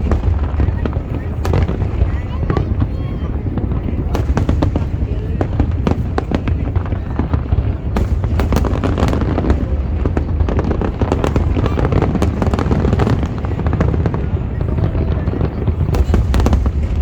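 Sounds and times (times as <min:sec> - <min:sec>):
fireworks cracking and banging: 0:00.0 - 0:17.0
low rumble of booms: 0:00.0 - 0:17.0.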